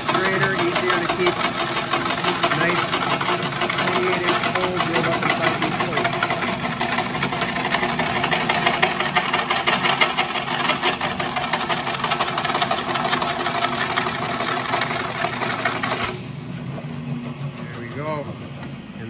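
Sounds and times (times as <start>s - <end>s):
boring machine drilling wood: 0.0s - 16.3s.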